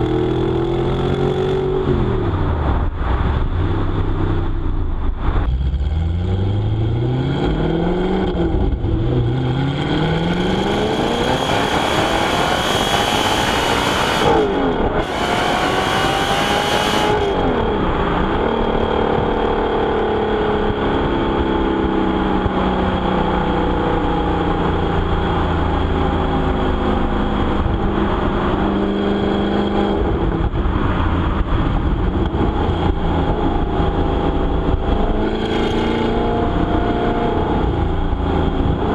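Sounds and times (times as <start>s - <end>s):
car engine revving through gears: 0.0s - 2.4s, 5.3s - 38.9s.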